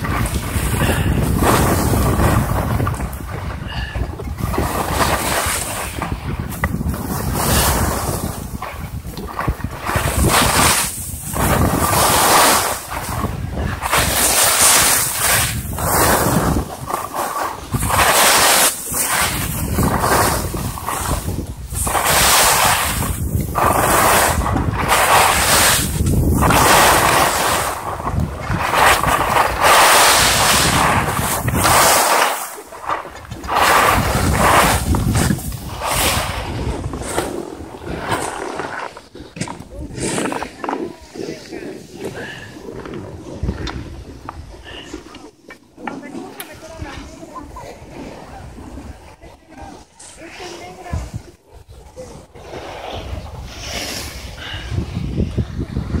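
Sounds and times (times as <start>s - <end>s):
wind rushing over microphone: 0.0s - 45.2s, 46.0s - 56.0s
skis scraping over snow: 0.0s - 56.0s.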